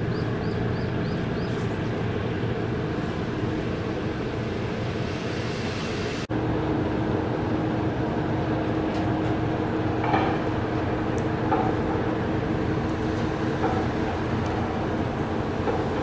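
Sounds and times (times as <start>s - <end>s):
tugboat engines rumbling: 0.0s - 16.0s.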